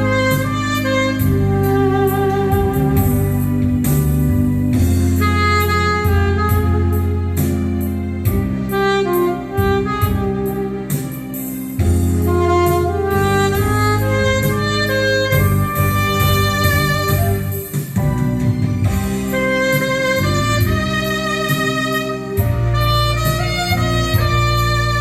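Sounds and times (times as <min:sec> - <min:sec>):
bass line: 0:00.0 - 0:25.0
light drums: 0:00.0 - 0:25.0
saxophone melody: 0:00.0 - 0:25.0.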